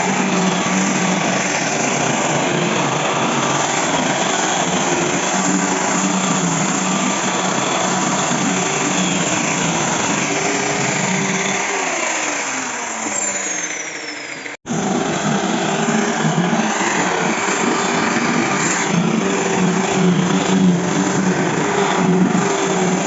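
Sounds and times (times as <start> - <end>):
electric grinder grinding wood: 0.0 - 23.0.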